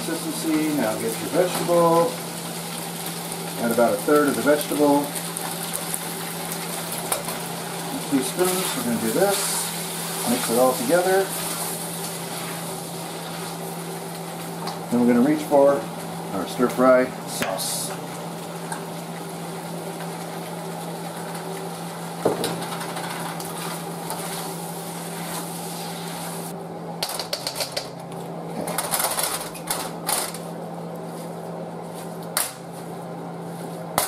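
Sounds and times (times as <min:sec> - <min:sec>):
noodles sizzling in a wok: 0:00.0 - 0:27.7.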